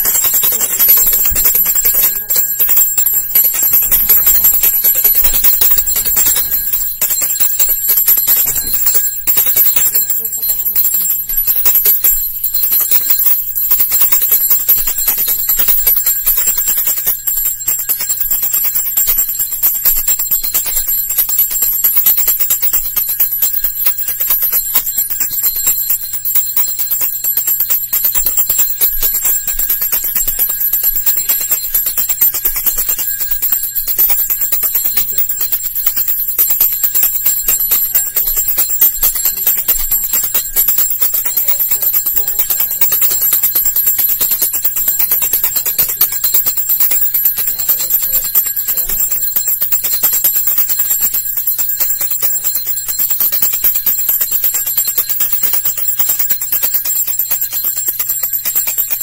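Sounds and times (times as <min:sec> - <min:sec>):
hand bell ringing: 0:00.0 - 0:59.0.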